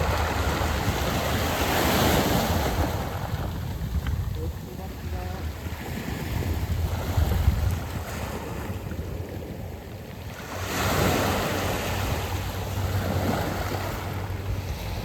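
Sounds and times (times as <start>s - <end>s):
waves washing over pebbles: 0.0s - 15.0s
wind rumbling on microphone: 0.0s - 15.0s.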